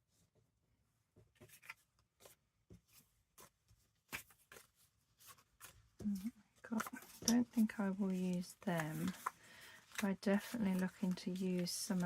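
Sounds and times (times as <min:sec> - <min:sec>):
paper rustling and tapping: 0:01.2 - 0:12.0.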